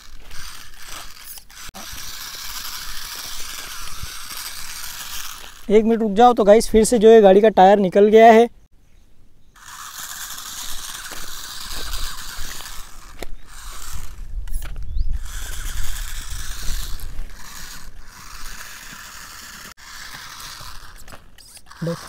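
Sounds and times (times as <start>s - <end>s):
small electric motors whirring: 0.0s - 6.8s, 9.6s - 22.0s.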